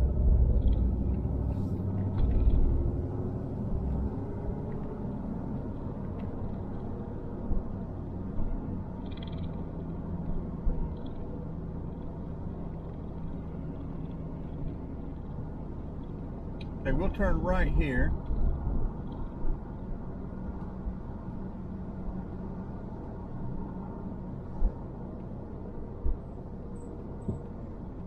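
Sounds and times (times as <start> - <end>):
car driving slowly: 0.0 - 28.0.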